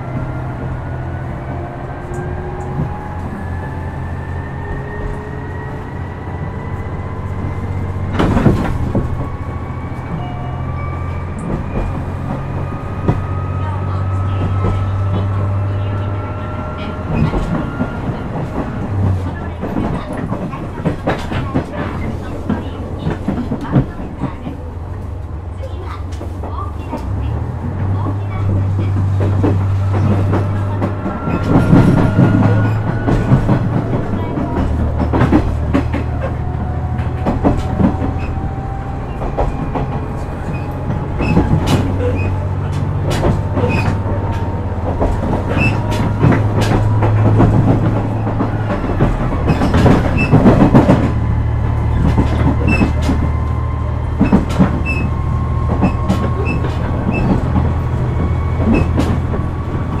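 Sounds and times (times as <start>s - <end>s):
diesel engine droning: 0.0s - 60.0s
wheels clacking over rail joints: 0.0s - 60.0s.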